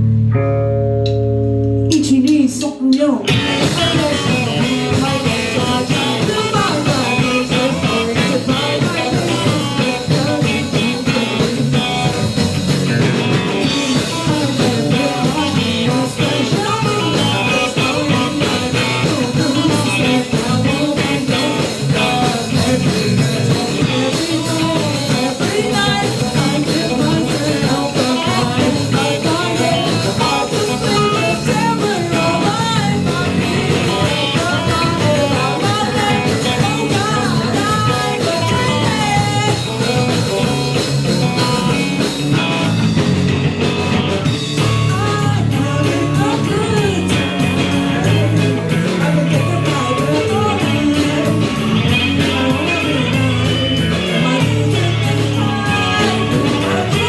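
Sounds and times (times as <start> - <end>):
live rock band playing: 0.0 - 2.2, 3.2 - 57.0
vocalist singing: 1.9 - 43.0, 44.0 - 57.0.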